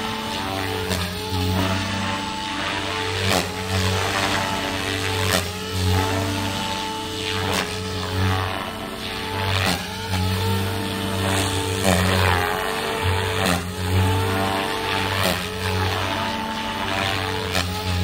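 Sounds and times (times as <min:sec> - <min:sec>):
model helicopter rotor drone: 0:00.0 - 0:18.0.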